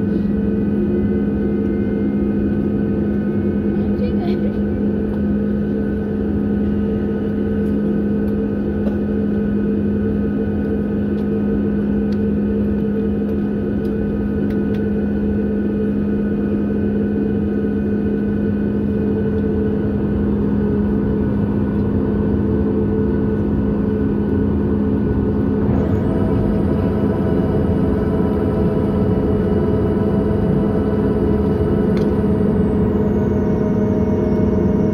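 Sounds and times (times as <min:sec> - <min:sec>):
airplane cabin engine hum: 0:00.0 - 0:34.9.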